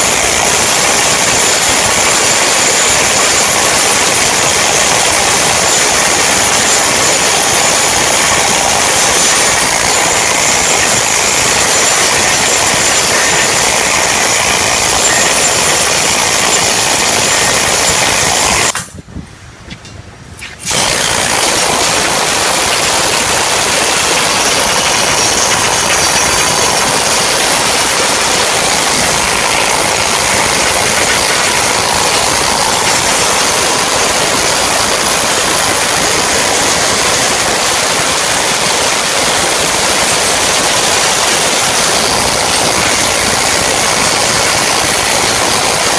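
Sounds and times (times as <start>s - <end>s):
welding arc crackle and hiss: 0.0s - 18.9s, 20.4s - 45.9s.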